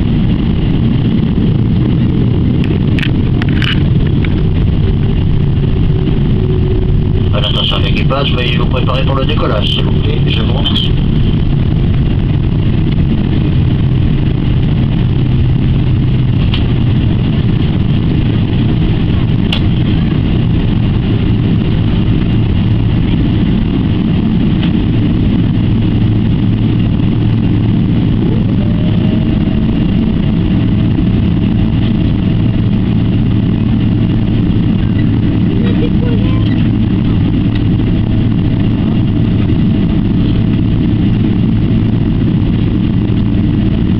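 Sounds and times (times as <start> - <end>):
engine whine: 0.0 - 43.9
jet engine cabin rumble: 0.0 - 43.9.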